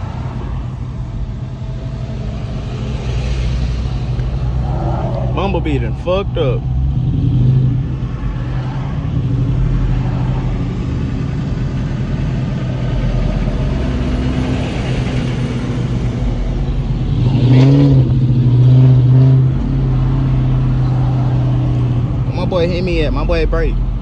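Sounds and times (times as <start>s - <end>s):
car engine droning: 0.0s - 24.0s
road noise: 0.0s - 24.0s.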